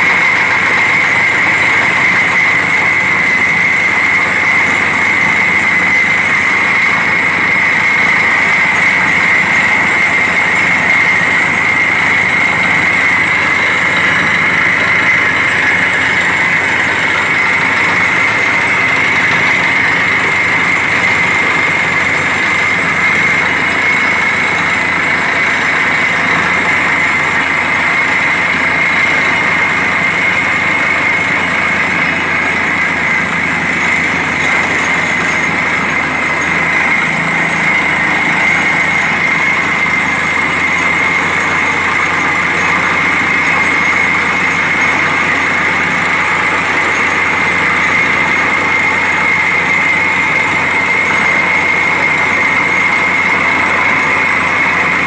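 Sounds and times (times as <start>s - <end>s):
drilling rig machine whine: 0.0s - 55.0s.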